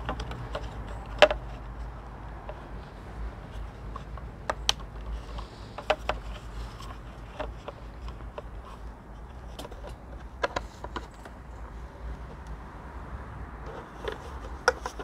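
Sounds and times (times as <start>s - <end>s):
plastic parts clicking and tapping: 0.0s - 2.8s, 3.5s - 11.6s, 13.6s - 15.0s.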